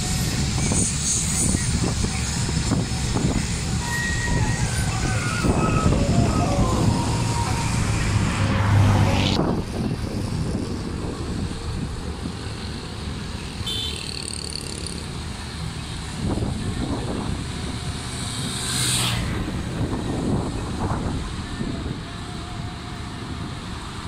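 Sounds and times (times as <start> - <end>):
wind on microphone: 0.0 - 12.8, 16.0 - 24.0
train rumble: 0.0 - 24.0.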